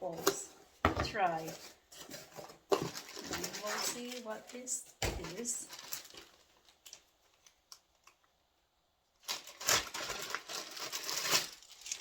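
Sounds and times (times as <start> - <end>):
packaging crinkling and rustling: 1.1 - 8.3, 9.2 - 12.0.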